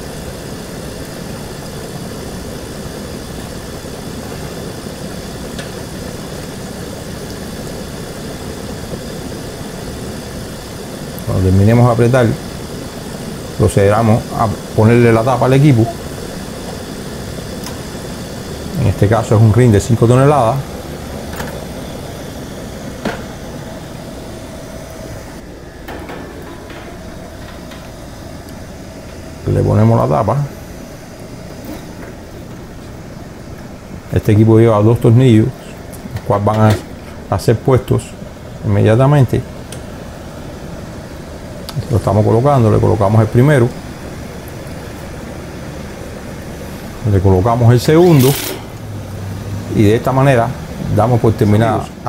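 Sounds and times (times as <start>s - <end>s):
air conditioner hum and rush: 0.0s - 52.0s.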